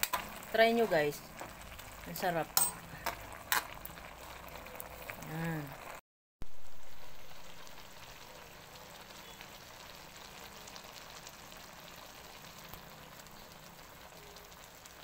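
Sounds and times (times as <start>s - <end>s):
broth simmering with fine crackle: 0.0s - 15.0s.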